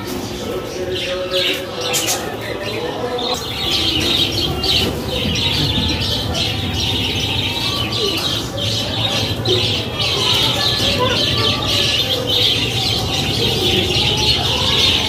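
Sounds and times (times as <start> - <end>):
budgerigars chattering and chirping: 0.1 - 15.0.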